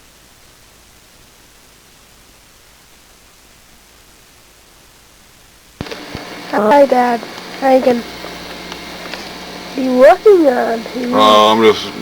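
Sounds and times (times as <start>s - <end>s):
tape hiss: 0.0s - 12.0s.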